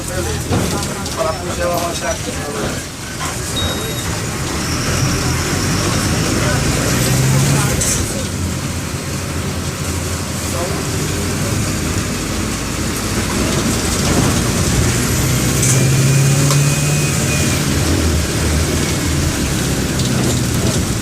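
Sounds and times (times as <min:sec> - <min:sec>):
diesel bus engine running: 0:00.0 - 0:21.0.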